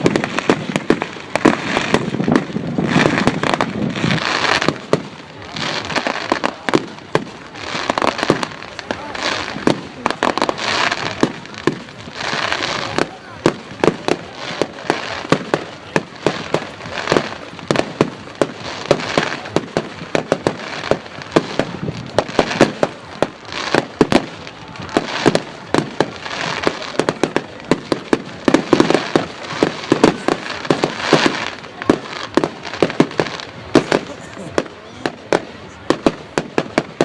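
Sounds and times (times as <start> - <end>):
fireworks banging and crackling: 0.0 - 37.0
steady crackling hiss: 0.0 - 37.0.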